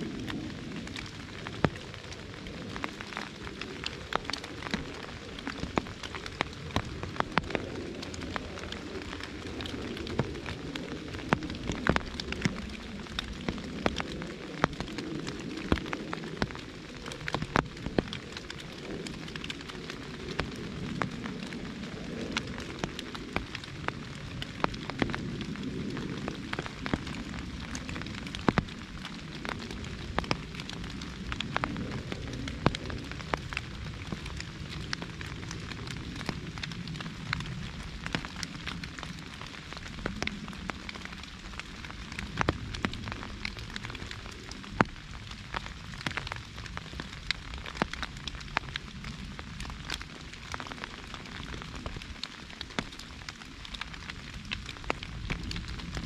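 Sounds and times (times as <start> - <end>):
rain pattering on an umbrella: 0.0 - 56.0.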